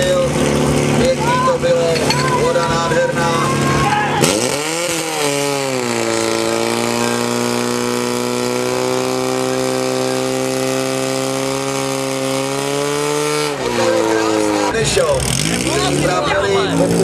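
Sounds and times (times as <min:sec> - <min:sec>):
pump engine revving: 0:00.0 - 0:17.0.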